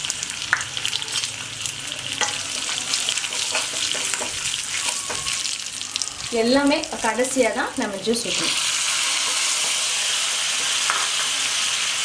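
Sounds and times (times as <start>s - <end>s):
hot oil sizzling and crackling: 0.0s - 12.0s.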